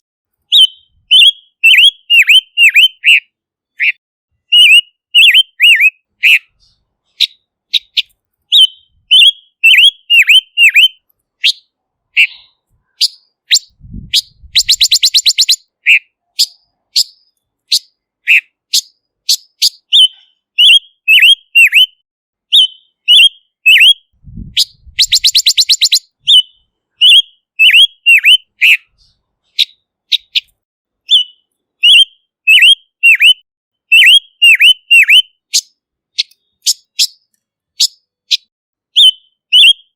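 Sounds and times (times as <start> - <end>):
bird whistling notes: 0.5 - 30.5, 31.1 - 37.2, 37.8 - 39.9.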